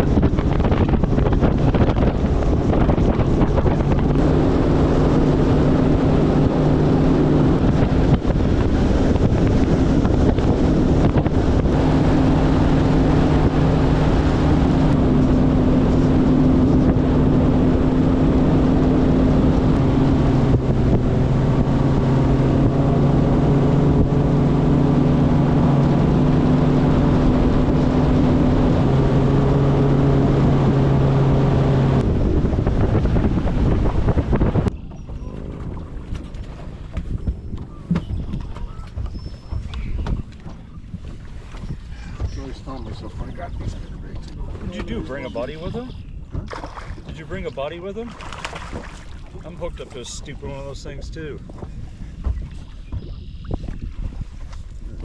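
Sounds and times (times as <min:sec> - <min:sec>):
outboard motor running: 0:00.0 - 0:55.0
wind rushing over microphone: 0:00.0 - 0:55.0.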